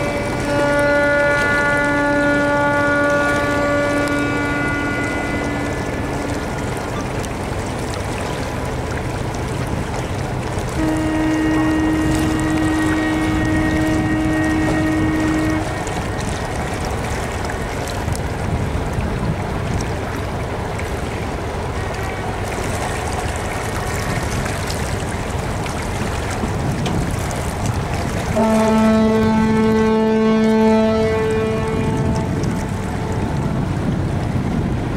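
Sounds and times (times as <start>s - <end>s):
ship's horn blast: 0.0s - 34.9s
wind and water noise: 0.0s - 34.9s.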